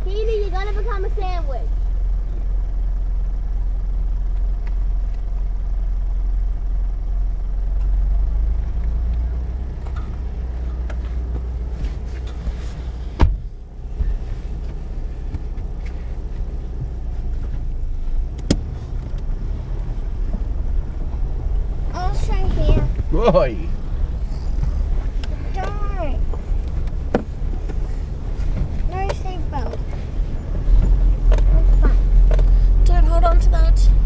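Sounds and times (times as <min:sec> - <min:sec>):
vehicle engine low rumble: 0:00.0 - 0:34.0.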